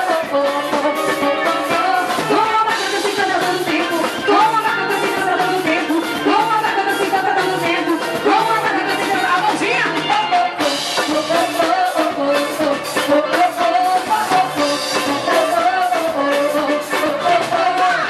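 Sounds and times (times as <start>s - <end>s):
fast steady drumming: 0.0s - 18.0s.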